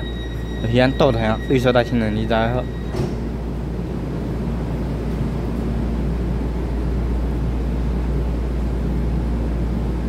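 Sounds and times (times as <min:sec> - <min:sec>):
train low hum: 0:00.0 - 0:10.0
train rushing noise: 0:00.0 - 0:10.0.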